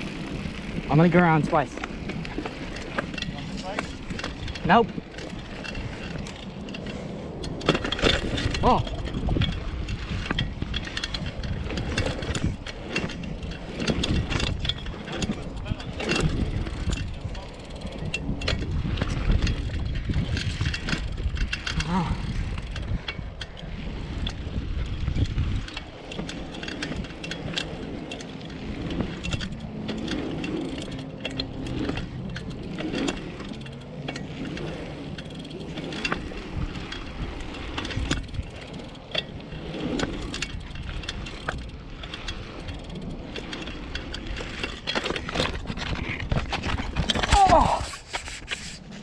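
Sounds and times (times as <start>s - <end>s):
bicycle chain and frame rattling: 0.0s - 49.0s.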